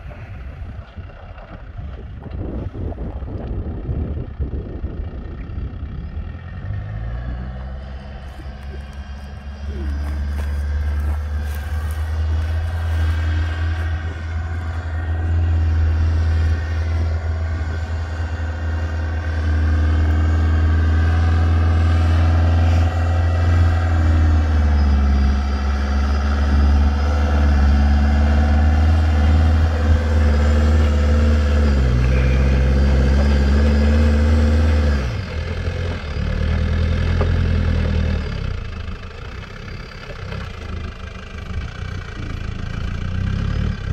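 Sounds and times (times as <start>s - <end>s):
vehicle engine revving uphill: 0.0s - 43.9s.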